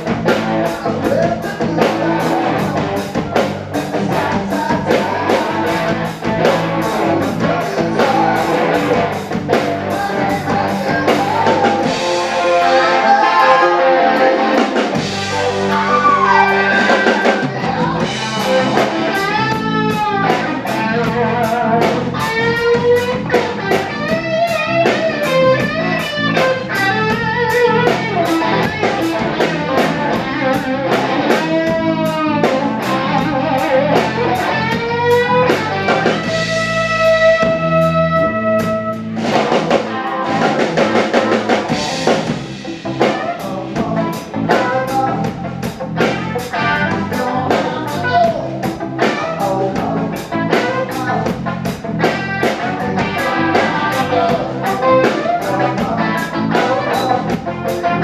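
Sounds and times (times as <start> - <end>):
bass guitar: 0.0 - 58.0
electric guitar lead: 0.0 - 58.0.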